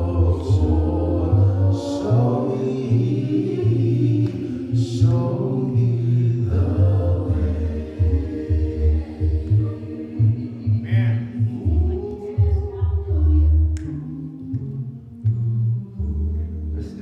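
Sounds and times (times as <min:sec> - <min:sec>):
group of voices singing gospel: 0:00.0 - 0:17.0
sustained low accompaniment: 0:00.0 - 0:17.0.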